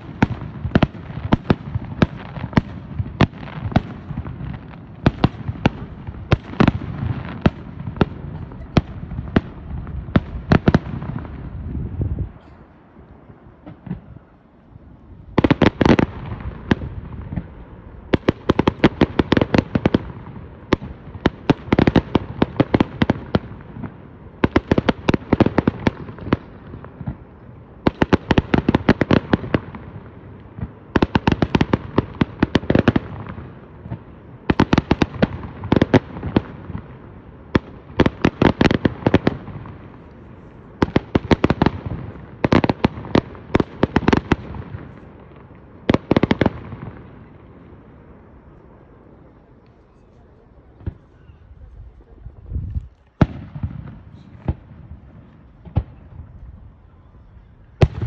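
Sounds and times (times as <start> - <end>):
fireworks banging and cracking: 0.0 - 11.7, 15.3 - 47.9, 51.9 - 56.7.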